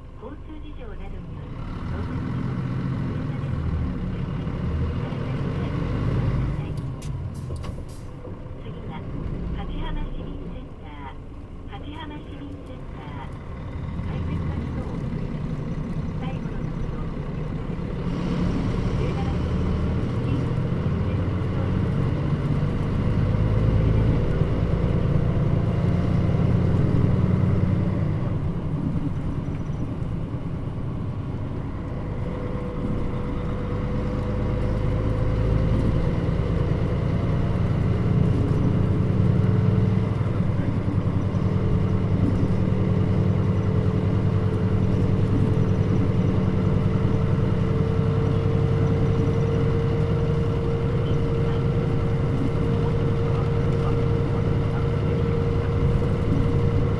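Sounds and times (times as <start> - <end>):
bus engine and road noise: 0.0 - 56.9.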